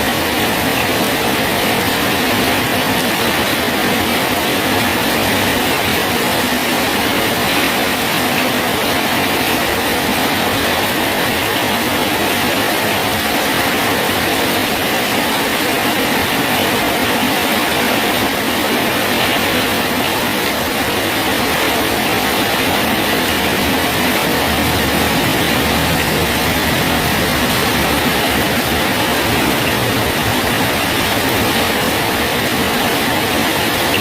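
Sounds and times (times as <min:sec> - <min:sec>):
rain falling on a bridge: 0:00.0 - 0:34.0.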